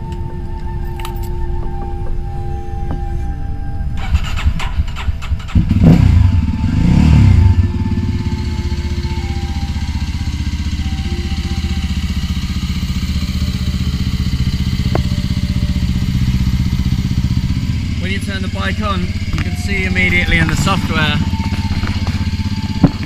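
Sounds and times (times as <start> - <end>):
motorcycle engine revving and idling: 0.8 - 23.0.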